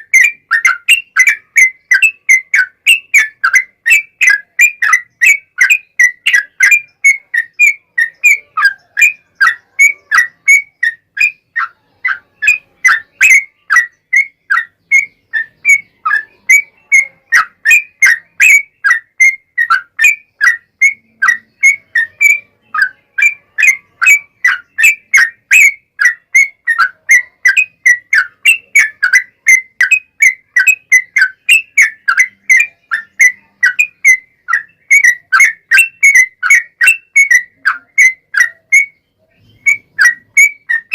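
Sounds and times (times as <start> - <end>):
bird song of high notes: 0.0 - 40.9.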